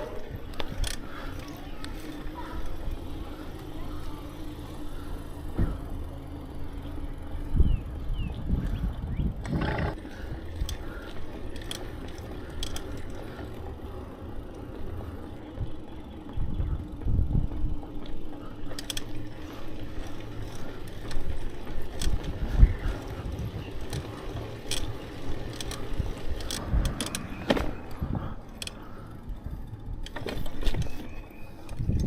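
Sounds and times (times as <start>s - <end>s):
bicycle freewheel clicking: 0.0s - 32.0s
bicycle rolling rumble: 0.0s - 32.0s.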